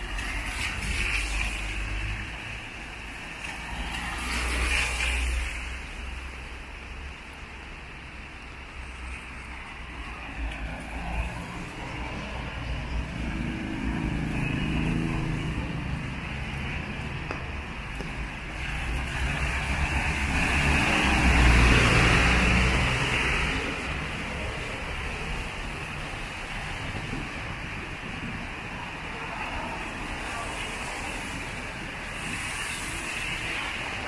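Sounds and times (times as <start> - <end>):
low traffic rumble: 0.0 - 34.0
tyres hissing on wet road: 0.0 - 34.0.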